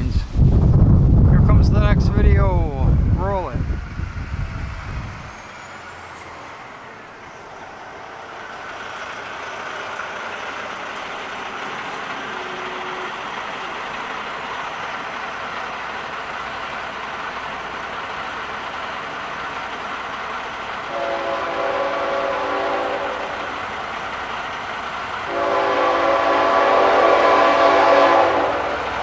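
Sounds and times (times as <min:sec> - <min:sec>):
diesel freight train passing: 0:00.0 - 0:29.0.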